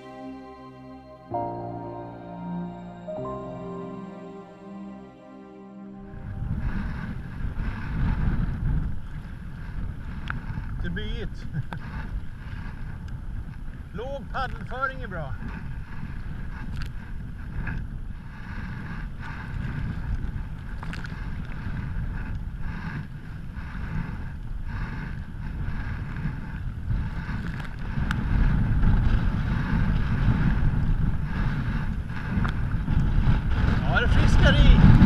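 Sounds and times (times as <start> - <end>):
wind noise on microphone: 6.0 - 35.0.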